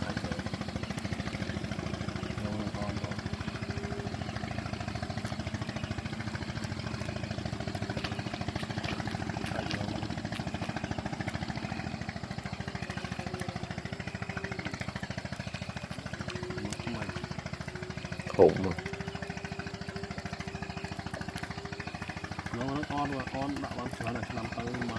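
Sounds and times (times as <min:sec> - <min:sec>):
boat engine running: 0:00.0 - 0:24.9.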